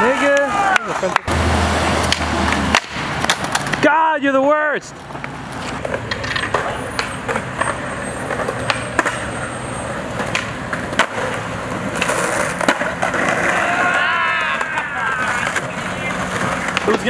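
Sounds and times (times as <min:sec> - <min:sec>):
skateboards clacking on ground: 0:00.0 - 0:01.3, 0:02.0 - 0:04.0, 0:04.9 - 0:17.0
skateboard wheels rolling on concrete: 0:00.0 - 0:17.0.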